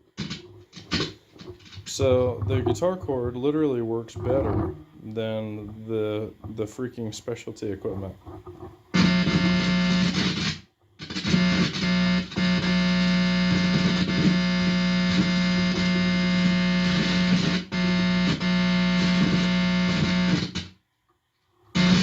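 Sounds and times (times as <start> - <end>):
guitar amplifier hum: 0.0 - 20.8, 21.7 - 22.0.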